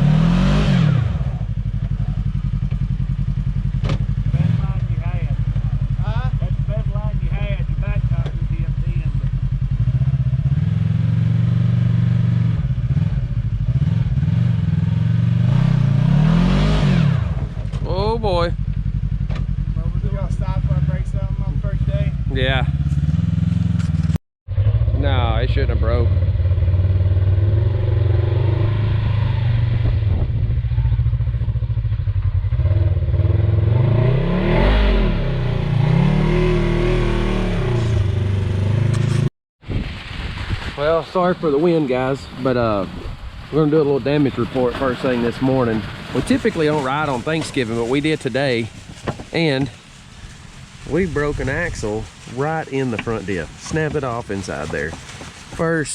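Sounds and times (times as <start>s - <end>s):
utility vehicle engine revving: 0.0s - 39.3s, 41.0s - 55.9s.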